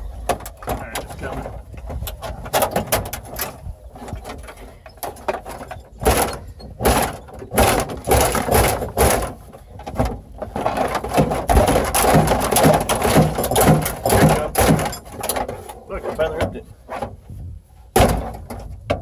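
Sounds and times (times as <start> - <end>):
dashboard being wrenched and pried: 0.0 - 17.2, 17.9 - 19.0.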